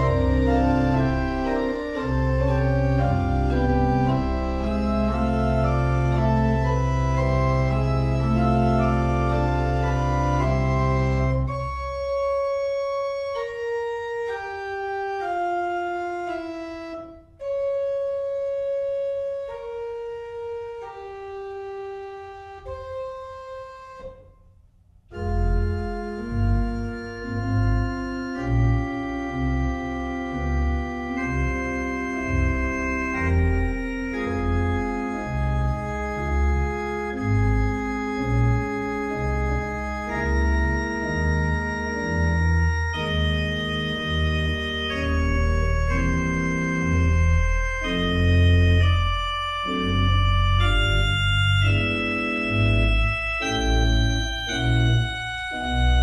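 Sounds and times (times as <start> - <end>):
pipe organ chords: 0.0 - 56.0.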